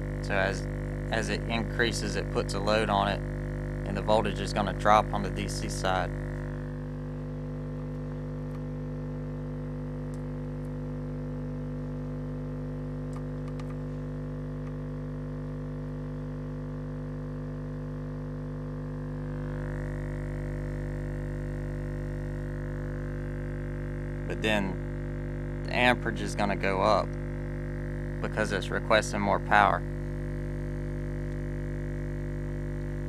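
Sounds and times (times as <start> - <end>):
low test tone from subwoofer: 0.0 - 33.0.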